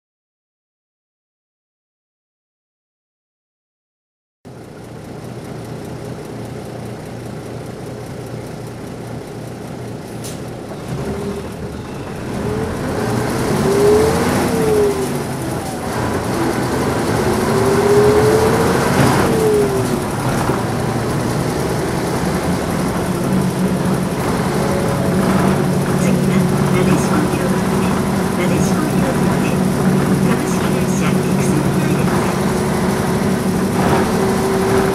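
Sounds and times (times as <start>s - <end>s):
bus diesel engine accelerating: 4.5s - 34.9s.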